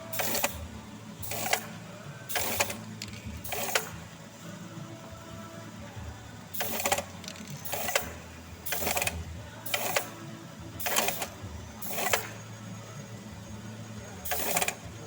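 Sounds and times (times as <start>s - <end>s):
pneumatic machine air hiss: 0.0s - 4.6s, 6.4s - 15.0s.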